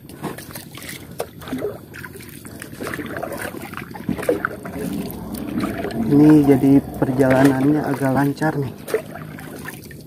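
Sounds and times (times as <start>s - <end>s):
paddle swishing through water: 0.0s - 10.0s.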